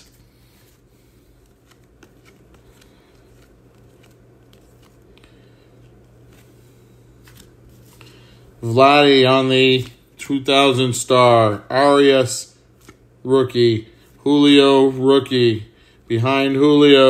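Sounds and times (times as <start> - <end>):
trading cards rustling: 0.0 - 12.0, 12.6 - 15.3
steady low hum: 0.0 - 17.0.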